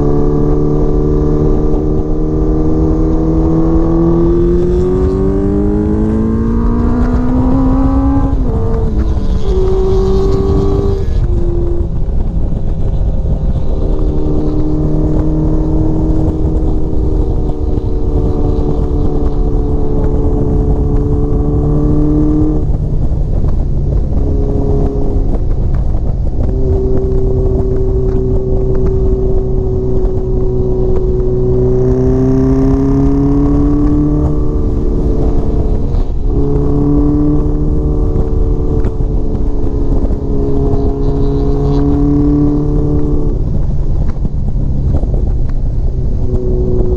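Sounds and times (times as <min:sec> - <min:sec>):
motorcycle engine running: 0:00.0 - 0:46.9
wind rush on microphone: 0:00.0 - 0:46.9.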